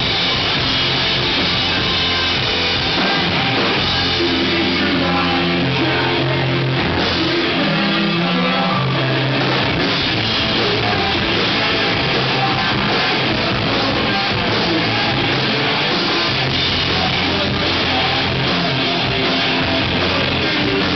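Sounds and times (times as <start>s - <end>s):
rock band playing live: 0.0s - 20.9s.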